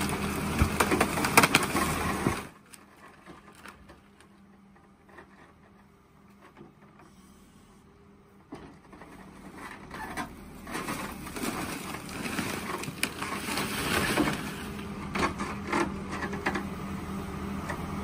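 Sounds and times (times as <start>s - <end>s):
diesel engine running: 0.0s - 2.7s, 3.4s - 18.0s
backhoe bucket crushing debris: 0.0s - 7.1s, 8.4s - 18.0s.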